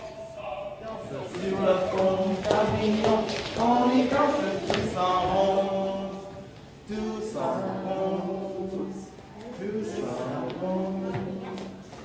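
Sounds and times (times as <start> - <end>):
adult voice singing: 1.2 - 11.9.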